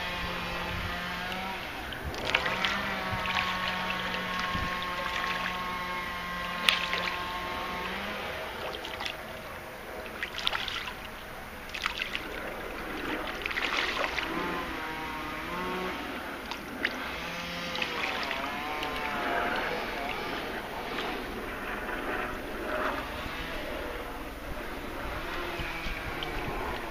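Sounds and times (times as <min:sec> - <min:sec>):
fish splashing at pond surface: 0:00.0 - 0:26.9
steady background hum: 0:00.0 - 0:26.9
wavering pitched tones: 0:00.0 - 0:26.9.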